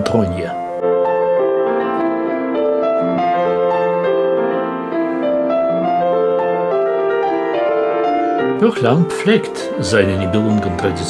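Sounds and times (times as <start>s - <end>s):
slow calm piano melody: 0.0s - 11.0s.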